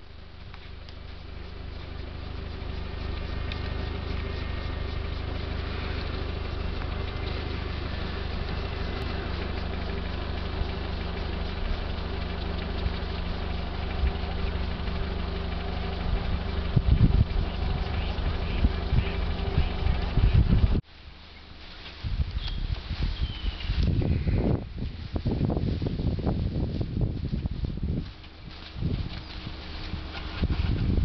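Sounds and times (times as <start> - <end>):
car engine idling: 0.0 - 20.8, 26.0 - 31.0.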